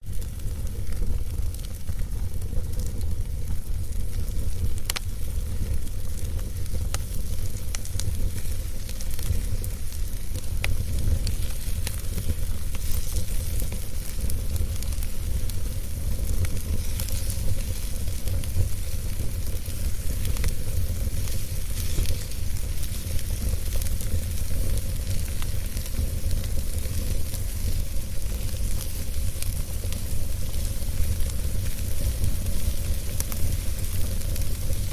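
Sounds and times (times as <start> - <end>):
fire crackling in fireplace: 0.0 - 34.9.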